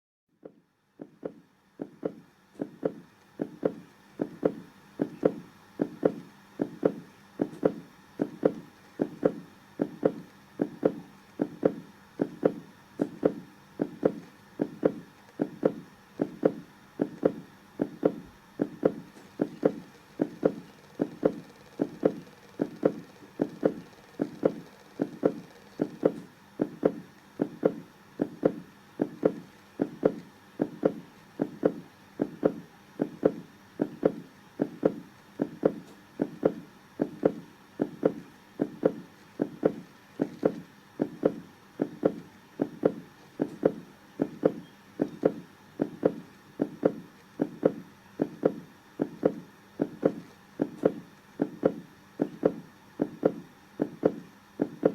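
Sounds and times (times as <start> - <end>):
heartbeat thumps: 0.4 - 54.9.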